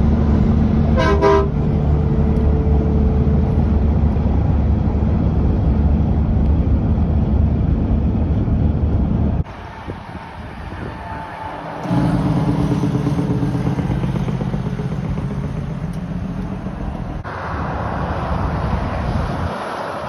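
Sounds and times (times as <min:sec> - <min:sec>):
broad rushing noise: 0:00.0 - 0:20.0
diesel truck engine rumbling: 0:00.0 - 0:20.0.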